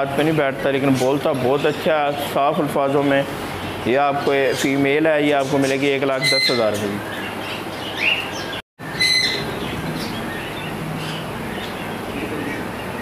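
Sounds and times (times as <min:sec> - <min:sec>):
caged birds chirping: 0:00.0 - 0:13.0
steady background noise: 0:00.0 - 0:13.0.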